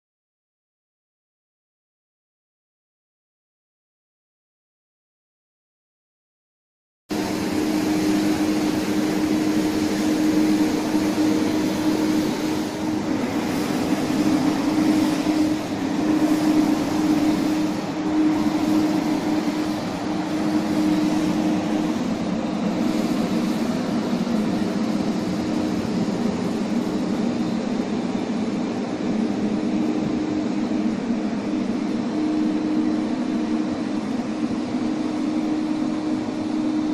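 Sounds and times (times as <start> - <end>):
electric tram humming: 7.1 - 36.9.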